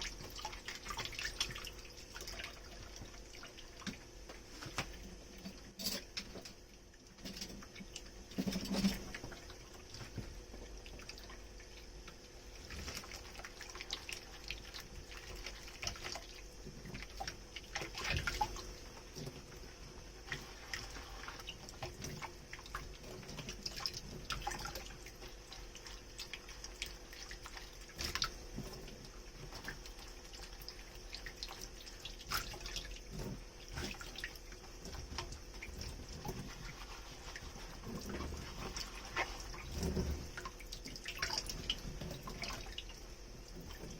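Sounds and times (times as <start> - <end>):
water dripping and trickling: 0.0 - 43.9.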